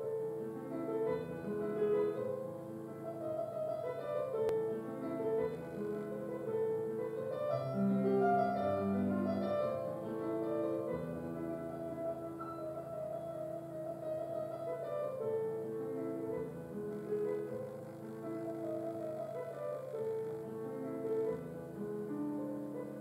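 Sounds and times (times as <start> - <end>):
slow classical piano piece: 0.0 - 23.0.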